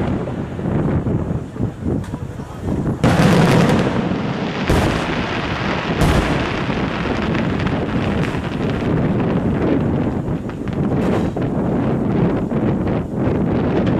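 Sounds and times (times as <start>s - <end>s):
continuous rumble: 0.0s - 13.9s
dense crackling: 0.0s - 13.9s
firework bangs: 0.0s - 13.9s.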